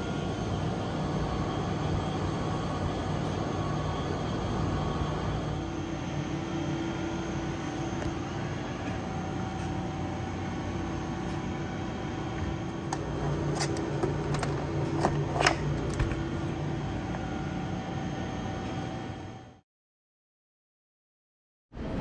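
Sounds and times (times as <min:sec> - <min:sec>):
vending machine hum: 0:00.0 - 0:19.6.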